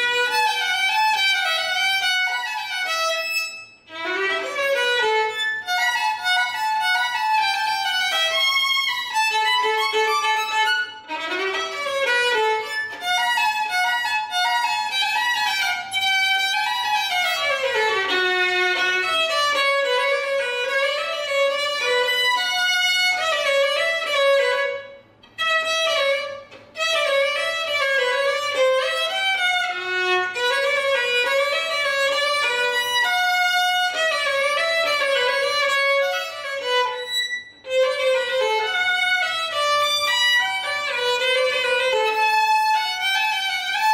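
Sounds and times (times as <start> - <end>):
solo violin: 0.0 - 43.9.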